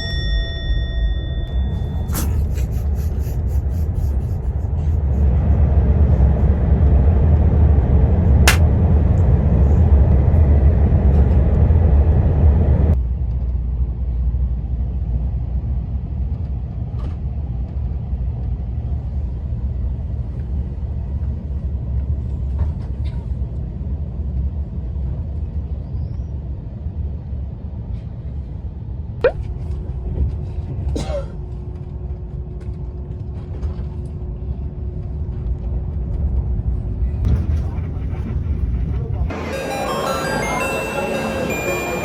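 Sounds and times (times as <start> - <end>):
low rumble of moving vehicle: 0.0 - 39.3.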